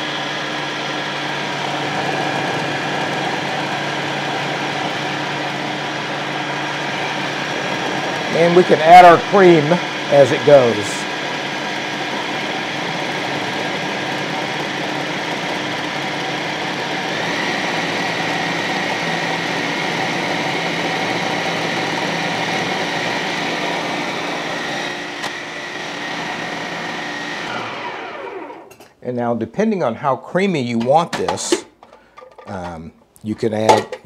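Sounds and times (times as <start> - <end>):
food processor motor whine: 0.0 - 28.8.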